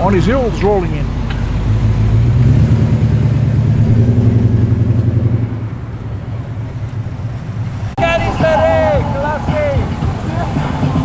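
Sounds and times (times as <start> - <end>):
car driving past: 0.0 - 11.0.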